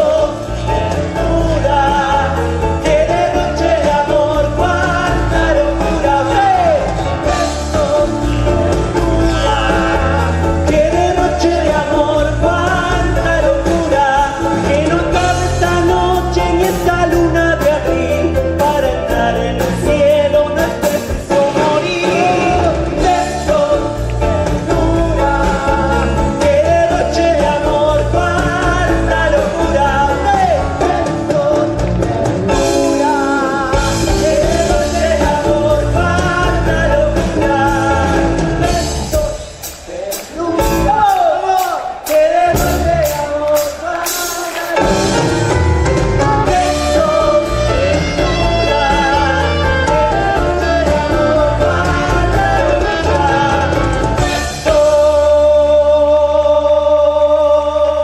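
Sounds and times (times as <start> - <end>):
latin pop song: 0.0 - 58.0.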